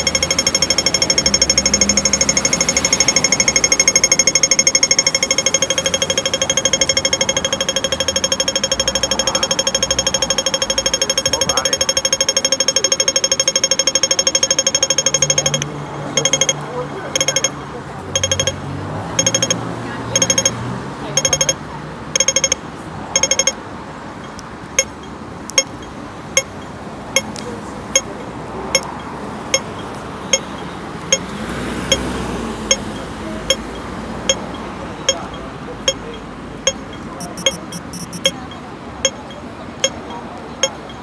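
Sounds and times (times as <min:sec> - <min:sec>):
crossing signal ticking: 0:00.0 - 0:31.3, 0:31.9 - 0:41.0.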